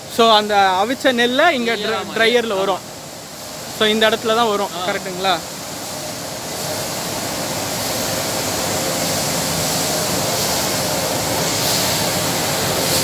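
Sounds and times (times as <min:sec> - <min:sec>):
mill machinery rushing with hum: 0:00.0 - 0:13.0.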